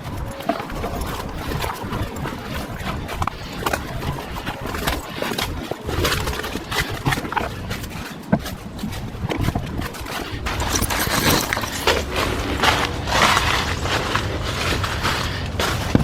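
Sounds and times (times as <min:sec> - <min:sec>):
footsteps on a path: 0:00.0 - 0:16.0
rustling of brush: 0:00.0 - 0:16.0
wind rumble on microphone: 0:00.0 - 0:16.0.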